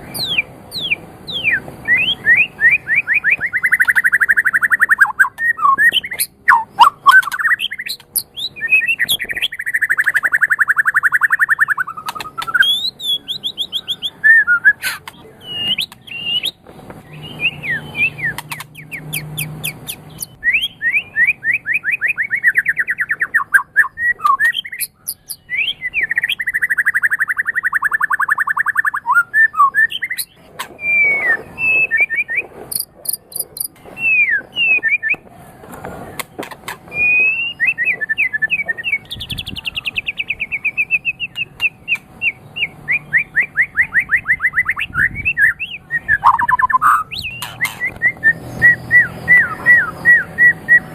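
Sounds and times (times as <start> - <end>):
songbird singing varied song: 0.0 - 35.3, 36.1 - 50.9.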